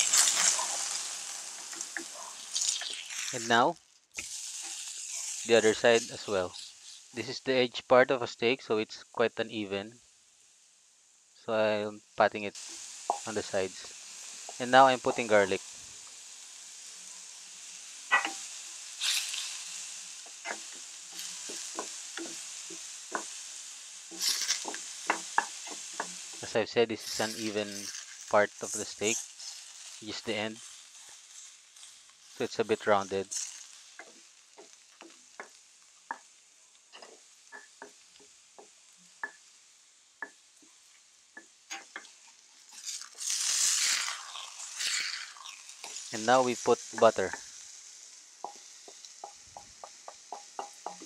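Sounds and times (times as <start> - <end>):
steak sizzling in oil: 0.0 - 7.6, 9.9 - 11.4, 12.0 - 51.0.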